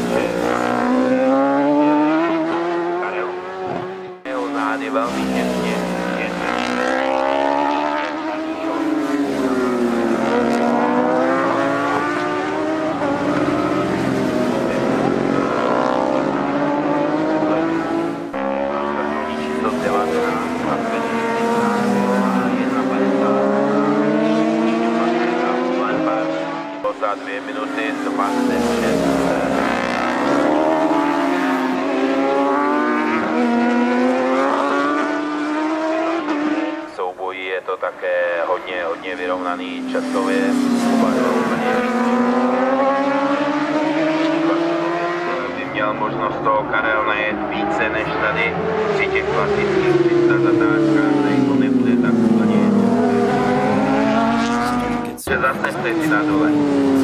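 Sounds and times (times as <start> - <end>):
racing motorcycles accelerating: 0.0 - 57.0.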